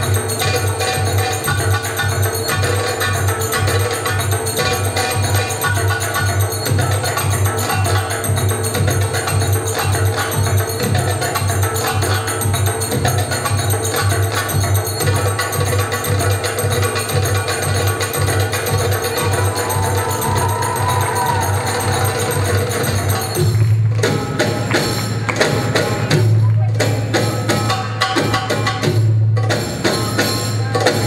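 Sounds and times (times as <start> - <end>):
belly dance music: 0.0 - 31.0
steady percussion beat: 0.0 - 31.0.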